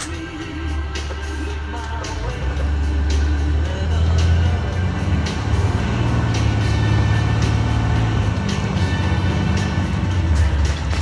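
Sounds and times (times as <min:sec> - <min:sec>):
bus engine rumbling: 0:00.0 - 0:11.0
music playing: 0:00.0 - 0:11.0.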